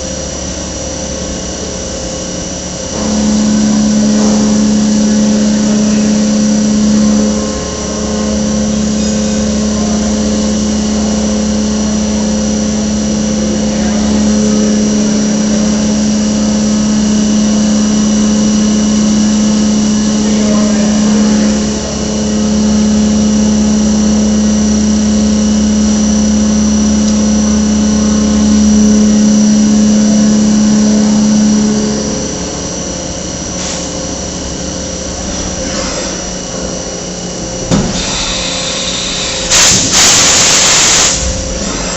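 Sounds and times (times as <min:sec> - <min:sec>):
milling machine humming: 0:00.0 - 0:41.9.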